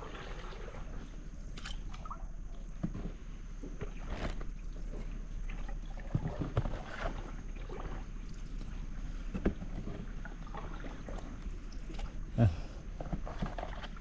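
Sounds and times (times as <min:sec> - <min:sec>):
water splashes: 0:00.0 - 0:02.6, 0:04.1 - 0:09.1, 0:09.8 - 0:14.0
paddle strokes in water: 0:00.0 - 0:14.0.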